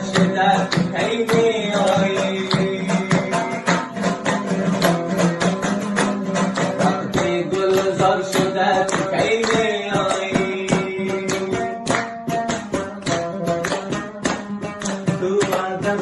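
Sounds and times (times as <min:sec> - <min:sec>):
lute melody line: 0:00.0 - 0:16.0
lute strummed fast: 0:00.0 - 0:16.0.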